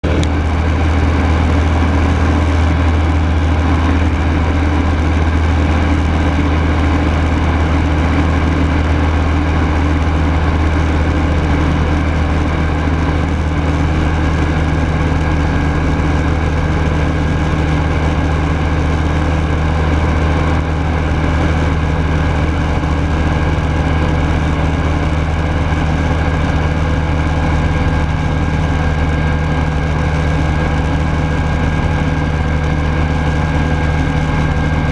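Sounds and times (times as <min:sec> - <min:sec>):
aircraft engine running steadily: 0:00.0 - 0:34.9.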